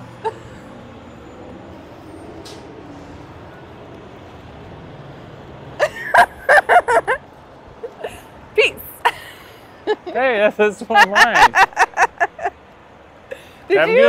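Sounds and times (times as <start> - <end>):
semi trucks idling: 0.0 - 14.0.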